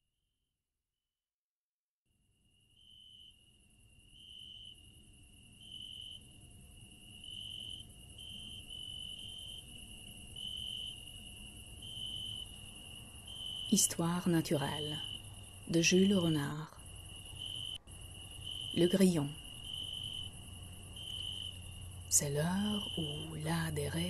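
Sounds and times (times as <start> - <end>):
crickets chirping: 2.1 - 24.0.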